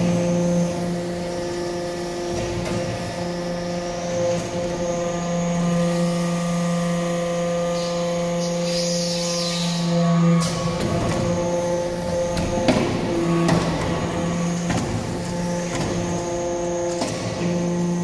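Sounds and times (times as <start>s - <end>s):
hydraulic press hum and whine: 0.0s - 18.0s.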